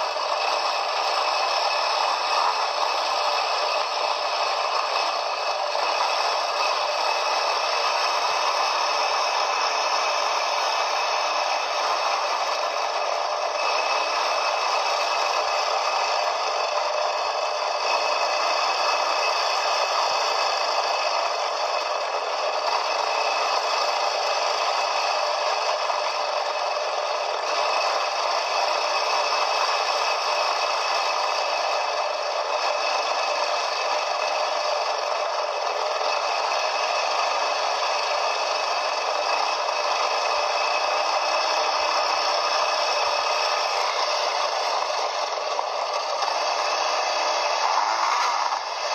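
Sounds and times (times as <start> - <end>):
quad bike running: 0.0 - 48.9.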